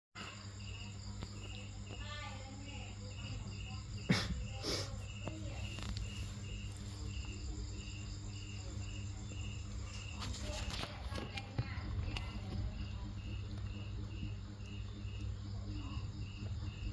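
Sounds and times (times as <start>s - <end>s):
insect chirping: 0.2s - 16.9s
low constant hum: 0.2s - 16.9s.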